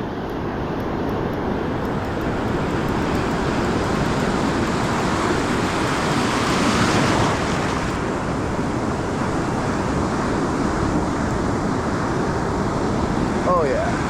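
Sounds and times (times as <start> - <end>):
ocean surf on beach: 0.0 - 14.0
wind noise on microphone: 0.0 - 14.0.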